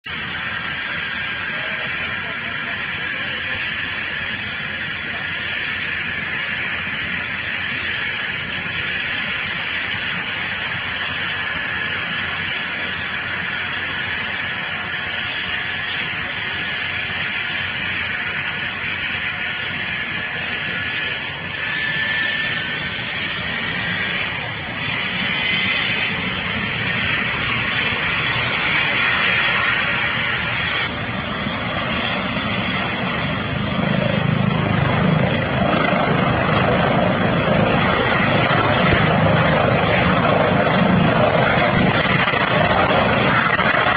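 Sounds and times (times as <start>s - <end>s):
helicopter turbine whine: 0.0s - 43.9s
helicopter rotor thrum: 0.1s - 43.9s.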